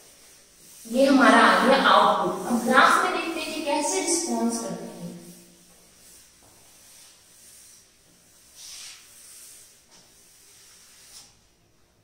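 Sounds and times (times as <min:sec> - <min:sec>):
rubbing on a chalkboard: 0:00.0 - 0:11.6.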